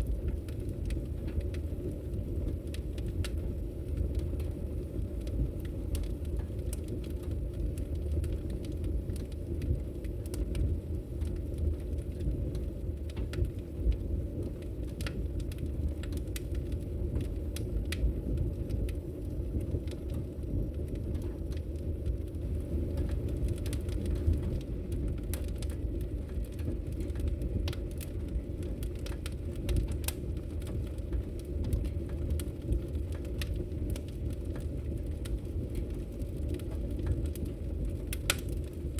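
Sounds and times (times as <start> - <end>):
logs crackling in fireplace: 0.0 - 38.9
low fire rumble: 0.0 - 38.9.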